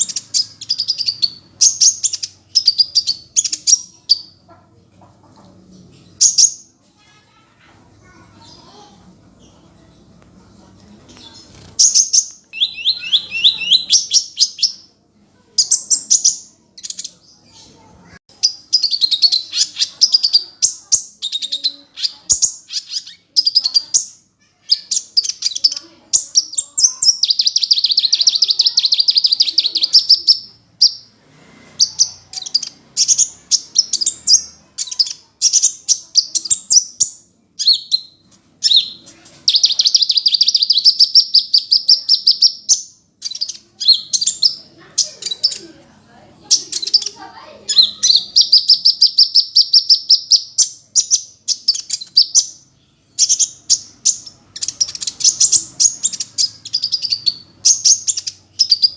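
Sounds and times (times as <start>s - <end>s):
bird chirping and trilling: 0.0s - 10.1s, 11.1s - 58.9s.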